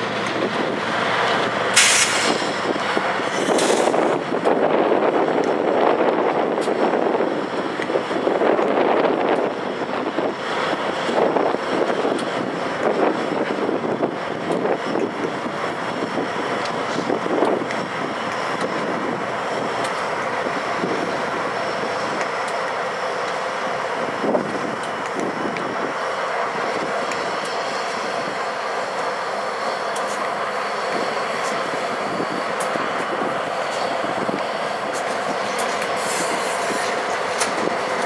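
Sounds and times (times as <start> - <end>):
diesel locomotives rolling past: 0.0 - 38.0.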